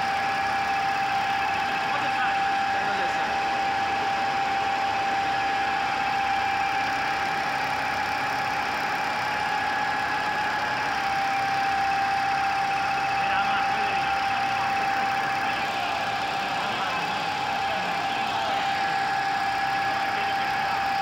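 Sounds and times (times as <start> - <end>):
constant machine whine: 0.0 - 21.0
machine mechanical hum: 0.0 - 21.0.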